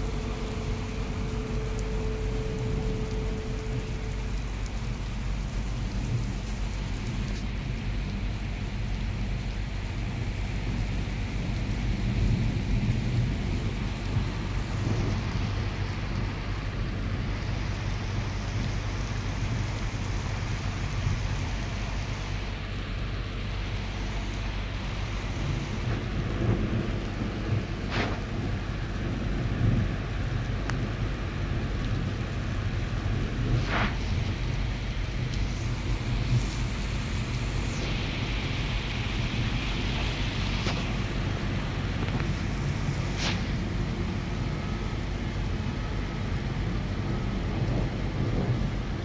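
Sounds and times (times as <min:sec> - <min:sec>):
low rumble: 0:00.0 - 0:49.0
steady rainfall: 0:00.0 - 0:49.0.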